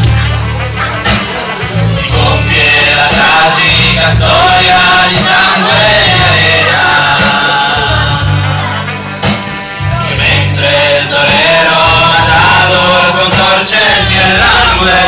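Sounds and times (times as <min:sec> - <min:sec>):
music with singing and heavy bass: 0:00.0 - 0:15.0.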